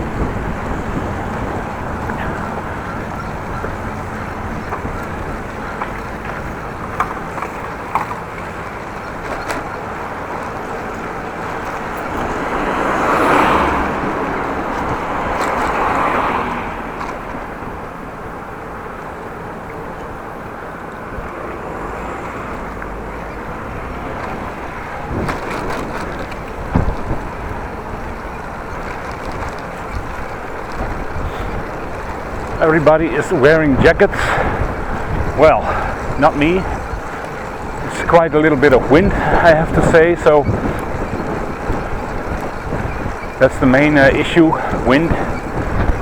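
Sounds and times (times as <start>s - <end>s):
bicycle clicks and knocks: 0.0s - 17.8s, 22.6s - 46.0s
wind rushing while cycling: 0.0s - 46.0s.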